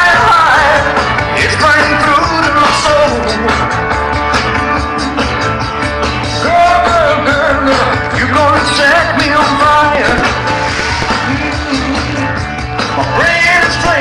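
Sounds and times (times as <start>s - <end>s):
rock song over loudspeakers: 0.0s - 14.0s.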